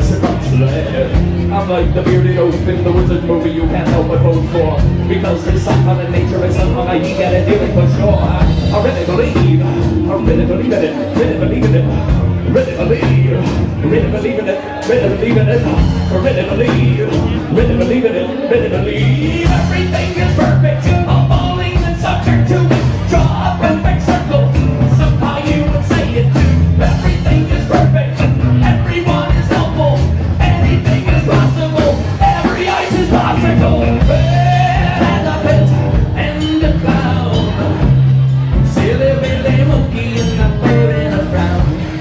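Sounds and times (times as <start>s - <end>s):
live band playing: 0.0s - 42.0s
person singing: 0.0s - 42.0s.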